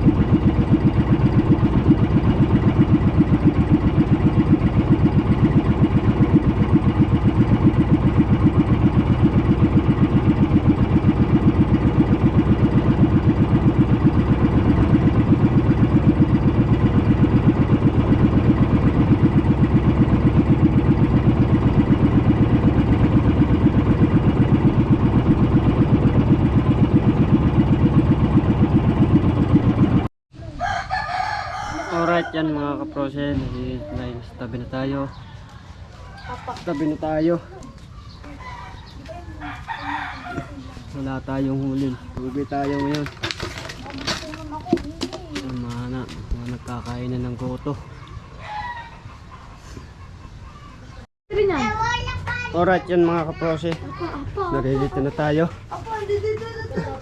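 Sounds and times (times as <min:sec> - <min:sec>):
boat engine chugging: 0:00.0 - 0:30.1, 0:32.6 - 0:48.4, 0:49.0 - 0:57.0.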